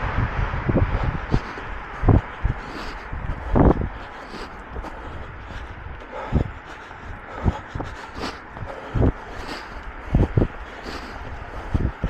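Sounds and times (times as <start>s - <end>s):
wind hiss: 0.0s - 12.0s.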